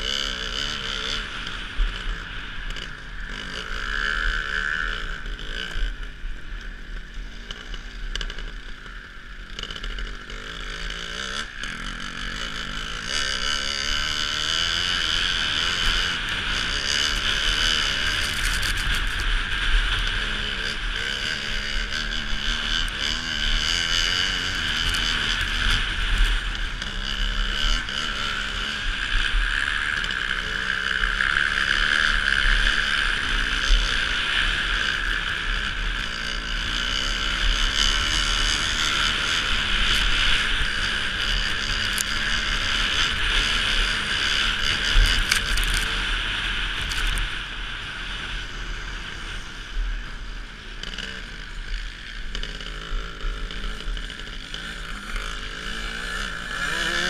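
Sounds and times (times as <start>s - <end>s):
motorbike engine revving: 0.0s - 57.0s.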